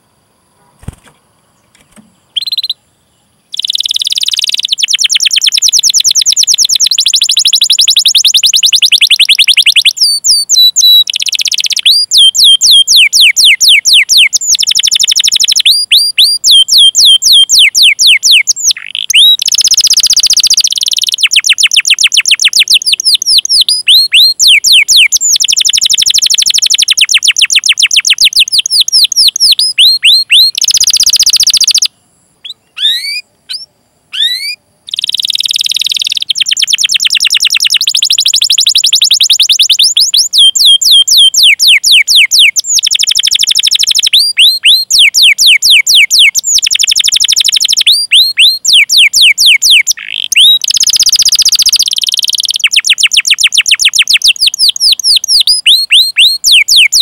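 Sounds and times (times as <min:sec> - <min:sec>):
canary singing trills: 0:00.6 - 0:57.0.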